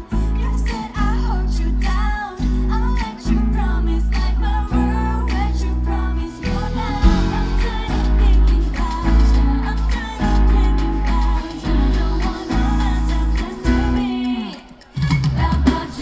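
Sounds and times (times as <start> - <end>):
person singing: 0.0 - 16.0
pop dance music with heavy bass: 0.0 - 16.0.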